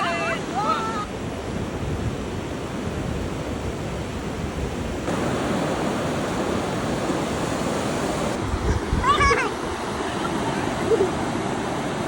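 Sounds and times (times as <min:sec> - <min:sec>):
surf washing on a beach: 0:00.0 - 0:12.0
wind rumbling on microphone: 0:00.9 - 0:12.0.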